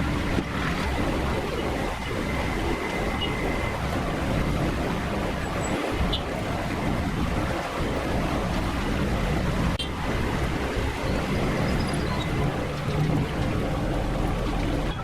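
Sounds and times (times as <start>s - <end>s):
cooking rushing noise: 0.0s - 15.0s.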